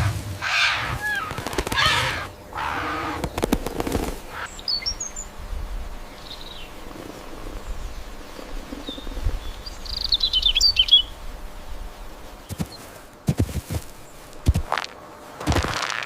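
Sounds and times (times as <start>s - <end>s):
harsh bird calls: 0.0s - 13.2s.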